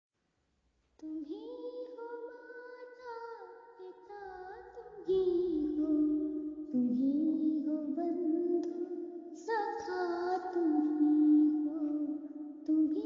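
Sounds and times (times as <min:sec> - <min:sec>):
high singing voice with music: 0:01.0 - 0:13.0.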